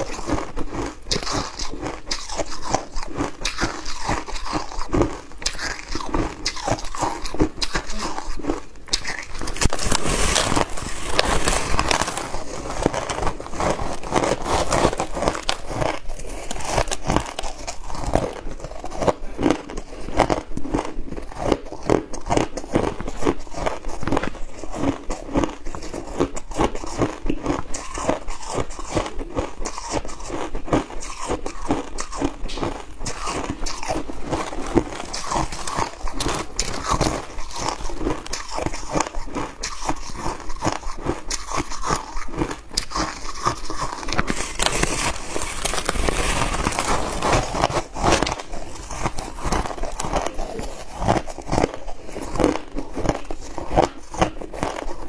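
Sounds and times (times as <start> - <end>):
crushed ice being chewed: 0.0 - 55.0.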